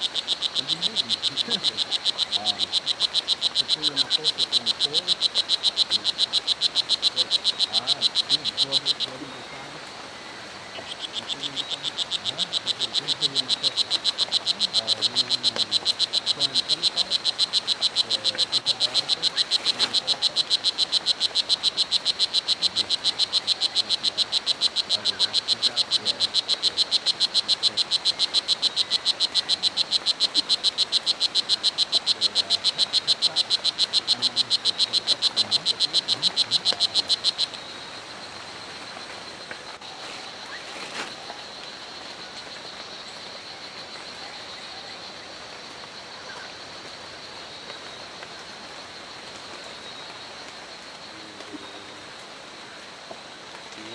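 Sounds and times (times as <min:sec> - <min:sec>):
frog chirping rapidly: 0:00.0 - 0:53.9.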